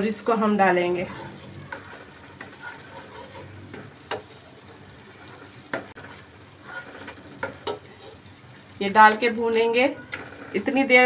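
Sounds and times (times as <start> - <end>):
garlic sizzling: 0.0 - 11.0
spatula stirring and scraping pot: 0.0 - 11.0.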